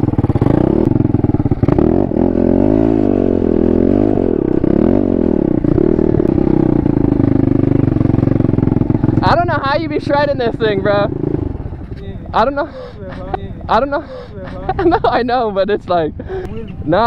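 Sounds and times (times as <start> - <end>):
motorbike engine revving: 0.0 - 15.5.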